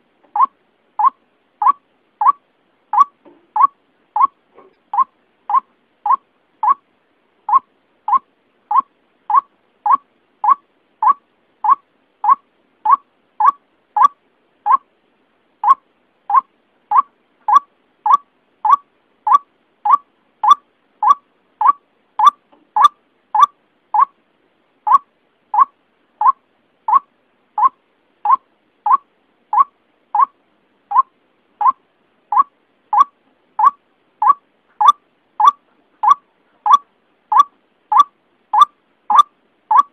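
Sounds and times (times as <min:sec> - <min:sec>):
waterhen calling: 0:03.0 - 0:06.8, 0:07.5 - 0:14.9, 0:15.6 - 0:24.2, 0:24.9 - 0:39.9.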